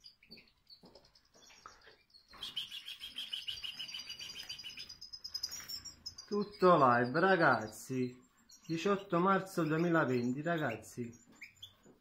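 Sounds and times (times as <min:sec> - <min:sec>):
goldfinches chirping and twittering: 0:00.0 - 0:12.0.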